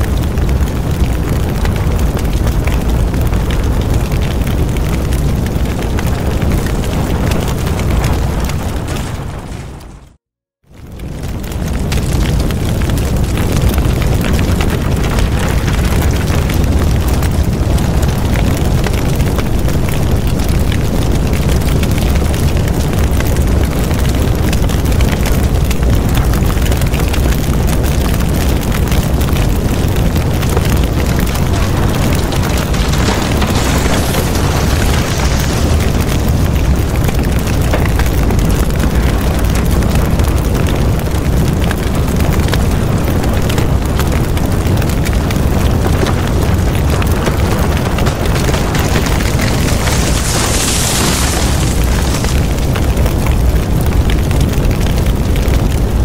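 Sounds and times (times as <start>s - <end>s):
fire roaring and crackling: 0.0s - 56.0s.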